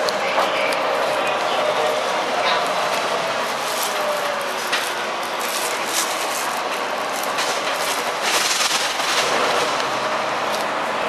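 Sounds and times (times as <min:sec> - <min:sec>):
bus body rattles and clicks: 0:00.0 - 0:10.8
bus drivetrain and road noise: 0:00.0 - 0:11.0.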